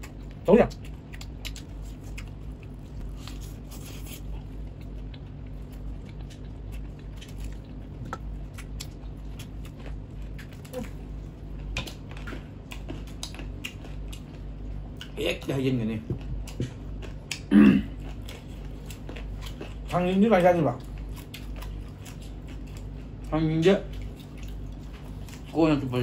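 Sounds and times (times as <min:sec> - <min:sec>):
chewing and biting fried chicken: 0:00.0 - 0:26.0
eating rice by hand: 0:00.0 - 0:26.0
steady low hum: 0:00.0 - 0:26.0.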